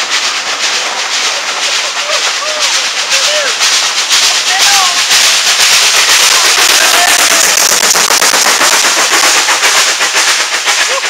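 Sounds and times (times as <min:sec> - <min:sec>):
steam hissing: 0:00.0 - 0:11.0
steam locomotive exhaust beats: 0:00.0 - 0:11.0.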